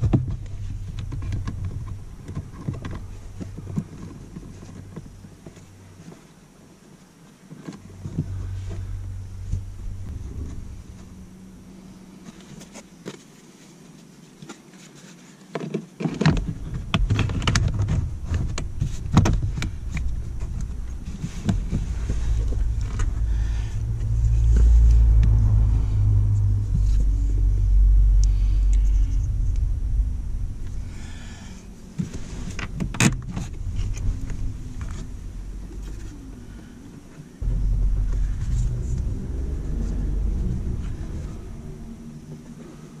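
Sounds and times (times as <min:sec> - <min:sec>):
steady low rumble: 0:00.0 - 0:06.1, 0:07.8 - 0:13.0, 0:16.2 - 0:43.0.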